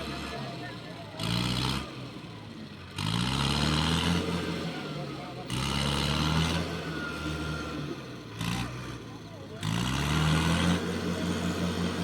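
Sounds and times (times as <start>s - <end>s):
tractor engine revving: 0.0s - 12.0s.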